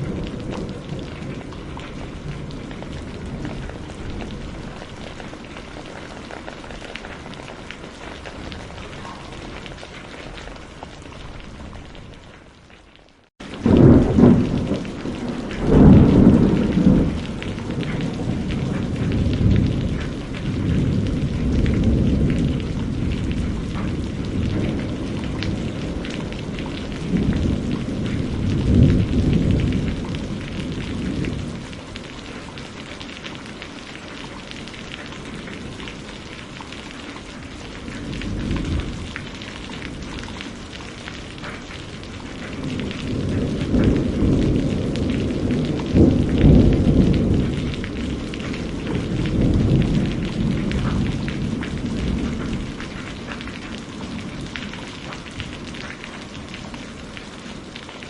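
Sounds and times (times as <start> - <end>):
rolling thunder: 0.0 - 12.2, 13.4 - 57.2
steady rain: 0.0 - 58.0.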